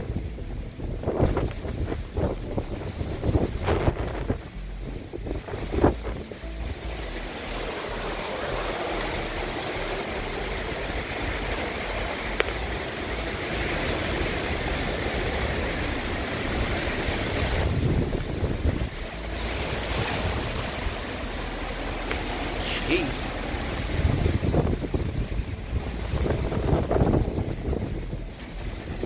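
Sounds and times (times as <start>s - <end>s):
wind blowing through trees: 0.0s - 29.0s
wind buffeting microphone: 0.0s - 29.0s.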